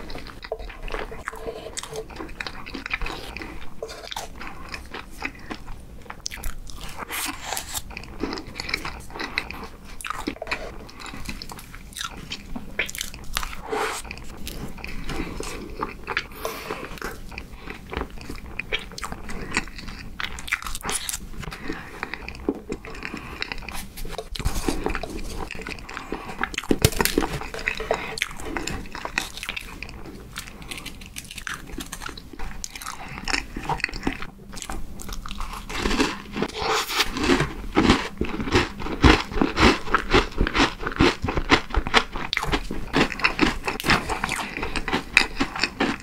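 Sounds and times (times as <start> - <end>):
person chewing soft cake: 0.0 - 46.0.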